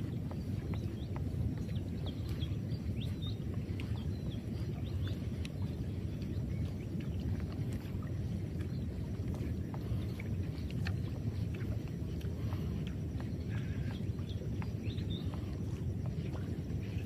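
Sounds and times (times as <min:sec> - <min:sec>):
water rumble: 0:00.0 - 0:17.0
wind rumble: 0:00.0 - 0:17.0.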